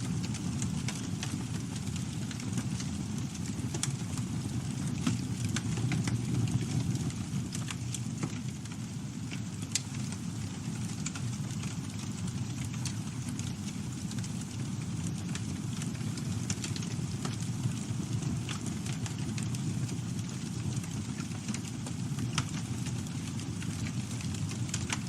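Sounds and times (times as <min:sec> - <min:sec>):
burning wood crackling and popping: 0:00.0 - 0:25.0
low rumble of flames: 0:00.0 - 0:25.0.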